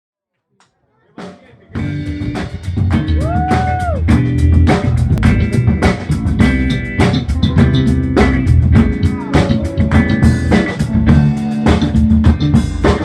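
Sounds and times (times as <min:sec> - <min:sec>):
drum kit beat: 0:01.1 - 0:13.0
bass guitar: 0:01.2 - 0:13.0
electric guitar chords: 0:01.2 - 0:13.0.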